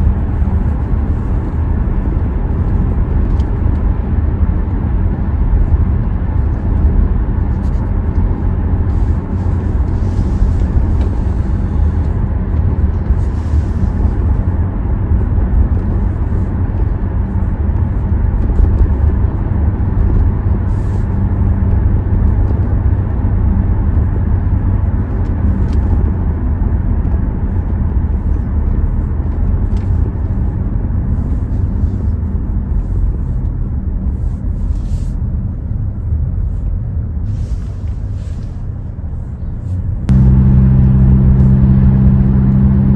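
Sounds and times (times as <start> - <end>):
car engine rumble: 0.0 - 42.9
road noise: 0.0 - 42.9.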